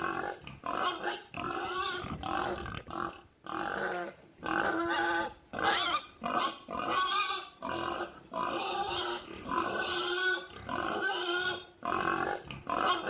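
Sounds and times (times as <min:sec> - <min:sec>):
pig-like squeals and grunts: 0:00.0 - 0:13.0.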